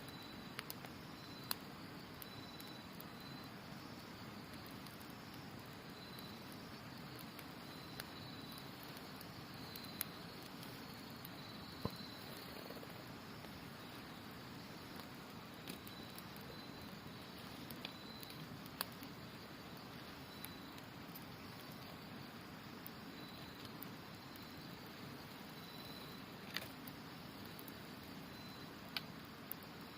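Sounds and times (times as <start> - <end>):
campfire crackling and popping: 0.0 - 29.9
insects trilling: 0.0 - 29.9.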